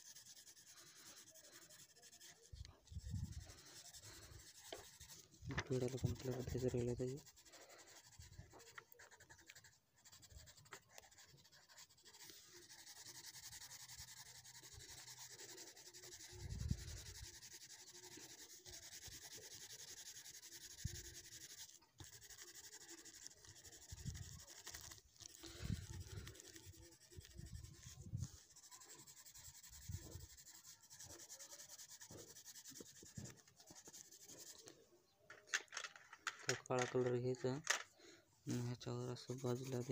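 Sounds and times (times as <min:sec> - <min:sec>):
pencil scratching on paper: 0:00.0 - 0:34.9, 0:38.5 - 0:39.9.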